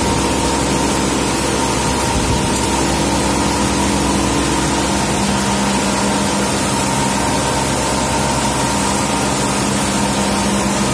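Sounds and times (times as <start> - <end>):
rice pouring from pipe: 0.0 - 10.9
sorting machine hum: 0.0 - 10.9.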